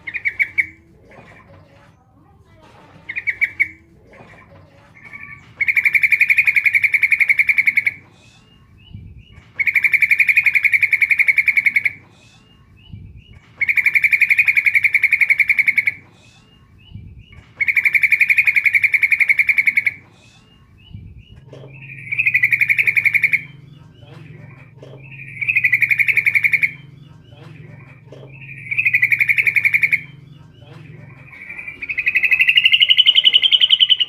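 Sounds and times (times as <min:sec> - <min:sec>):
bird rattling trills: 0:00.0 - 0:01.8, 0:02.9 - 0:08.0, 0:09.2 - 0:12.0, 0:13.2 - 0:16.0, 0:17.2 - 0:20.0, 0:21.1 - 0:34.0.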